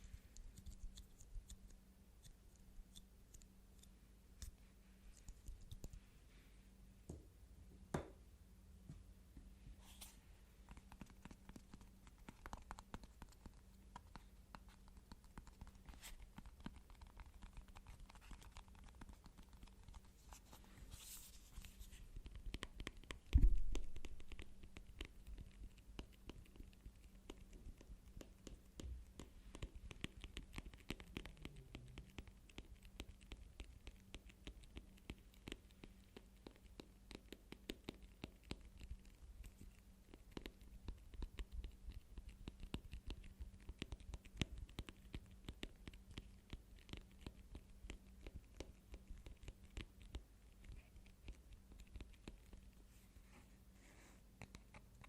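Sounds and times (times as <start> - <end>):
hands tapping and scratching objects: 0.0 - 6.1, 8.8 - 52.9, 54.3 - 55.0.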